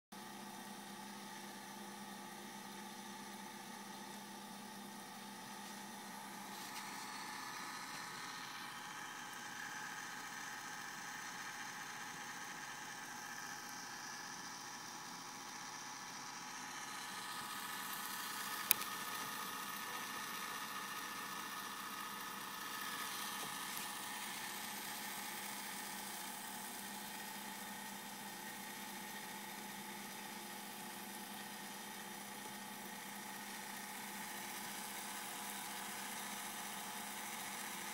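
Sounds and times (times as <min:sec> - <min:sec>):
small motor whirring: 0:01.3 - 0:37.9.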